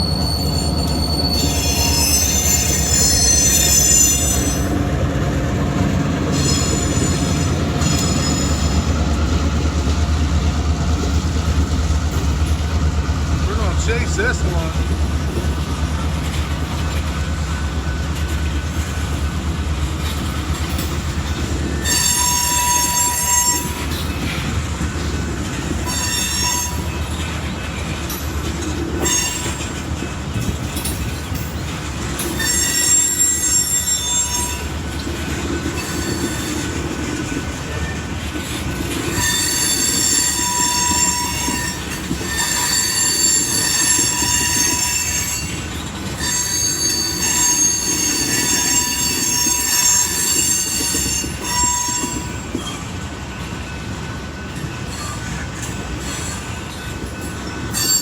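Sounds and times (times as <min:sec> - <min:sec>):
train wheels squealing: 0:00.0 - 0:13.0, 0:15.4 - 0:58.0
freight train rumbling past: 0:00.0 - 0:58.0.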